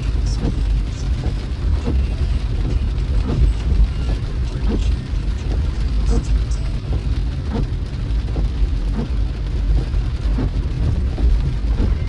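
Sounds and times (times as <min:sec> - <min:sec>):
rain tapping on car body: 0:00.0 - 0:12.0
road and engine rumble: 0:00.0 - 0:12.0.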